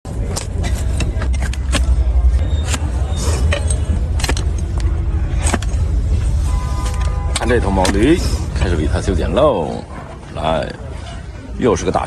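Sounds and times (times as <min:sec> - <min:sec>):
steady low rumble: 0:00.1 - 0:10.4.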